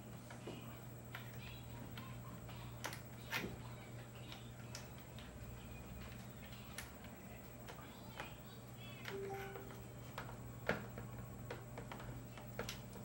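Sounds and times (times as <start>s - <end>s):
faint steady low hum: 0.0s - 13.0s.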